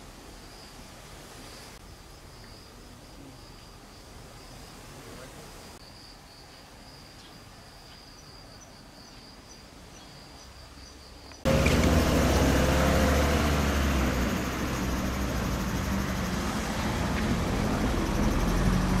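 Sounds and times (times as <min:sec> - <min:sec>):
insects trilling: 0:00.2 - 0:19.0.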